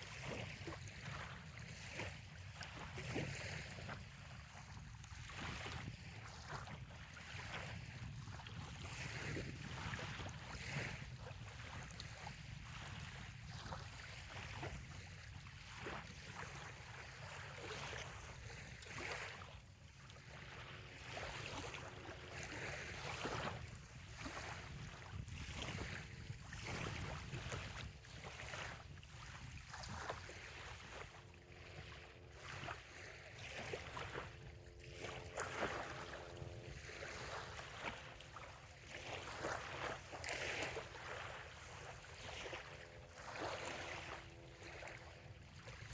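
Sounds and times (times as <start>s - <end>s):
waves lapping on sandy shore: 0.0s - 45.9s
wind on microphone: 0.0s - 45.9s.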